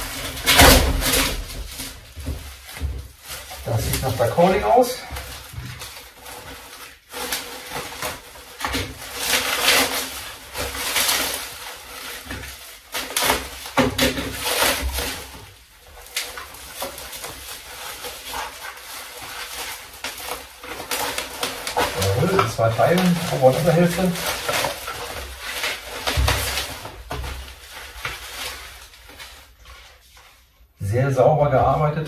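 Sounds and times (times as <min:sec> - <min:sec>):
plastic packaging crinkling: 0:00.0 - 0:30.8.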